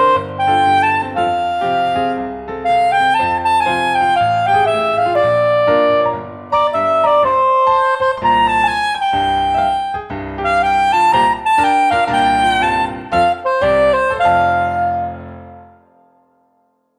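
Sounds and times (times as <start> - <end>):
soprano saxophone melody: 0.0 - 16.1
piano chords: 0.0 - 16.9.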